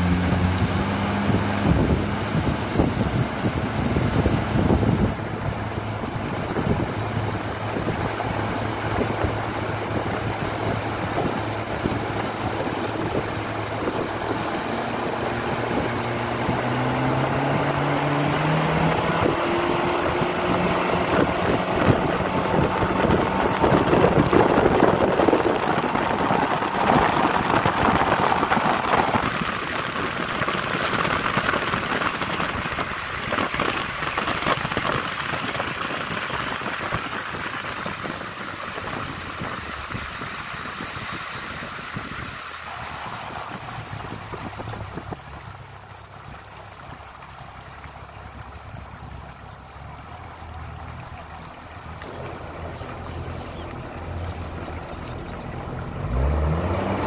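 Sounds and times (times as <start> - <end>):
outboard motor humming: 0.0 - 57.0
rush of wind and spray: 0.0 - 57.0.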